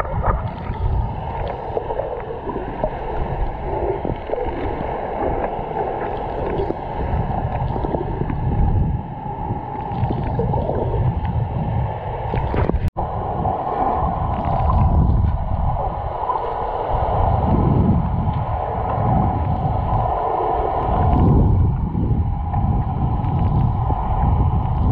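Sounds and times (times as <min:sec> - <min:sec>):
low underwater rumble: 0:00.0 - 0:24.9
underwater gurgling and sloshing: 0:00.0 - 0:24.9.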